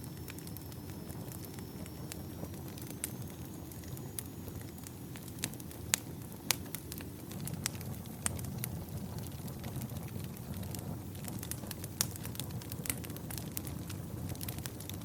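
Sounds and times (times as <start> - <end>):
campfire flames rushing: 0.0 - 15.0
firewood crackling and popping: 0.0 - 15.0.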